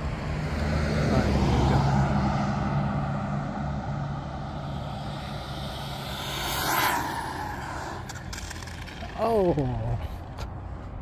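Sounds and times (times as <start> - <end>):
low engine hum: 0.0 - 11.0
vehicle passing by: 0.0 - 11.0.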